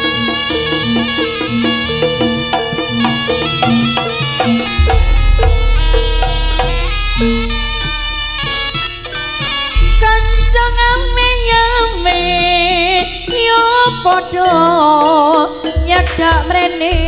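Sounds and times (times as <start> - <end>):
heavy drumming and bass: 0.0 - 14.2
wavering lead melody with vibrato: 0.0 - 17.0.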